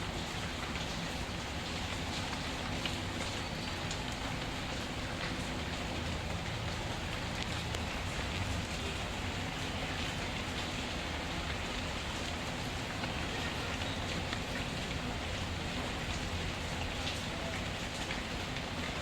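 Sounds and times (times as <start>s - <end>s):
faint wood fire crackles: 0.0s - 19.0s
steady rain falling: 0.0s - 19.0s.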